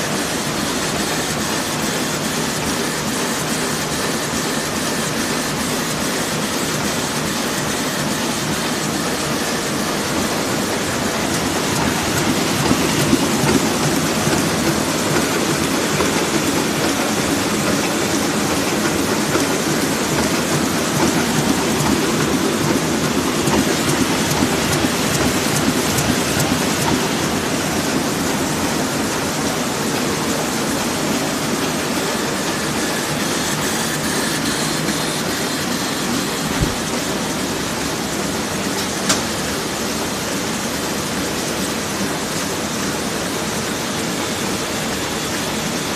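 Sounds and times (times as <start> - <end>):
printing press mechanical din: 0.0 - 45.9.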